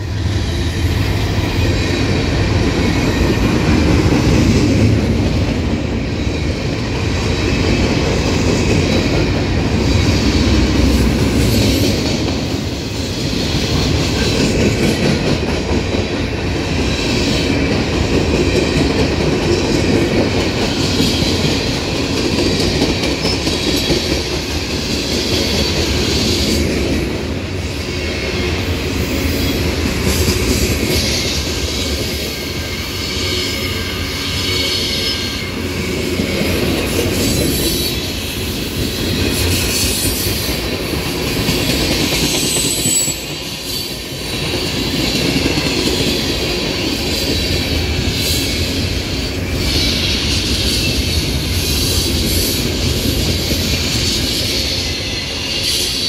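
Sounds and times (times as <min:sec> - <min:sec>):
train wheels rumbling and clacking: 0:00.0 - 0:56.0.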